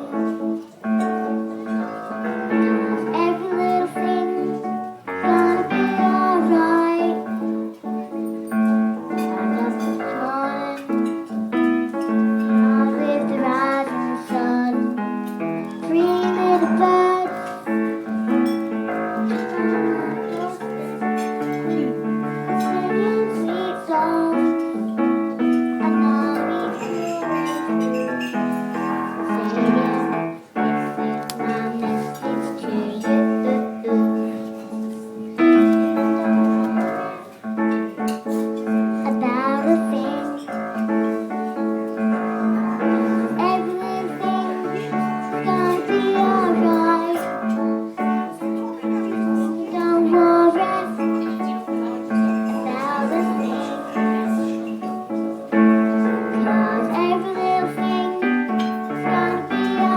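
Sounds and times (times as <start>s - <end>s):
piano accompaniment: 0.0s - 59.9s
person singing: 1.7s - 7.8s, 9.0s - 37.4s, 39.0s - 41.2s, 42.1s - 54.7s, 55.8s - 59.9s.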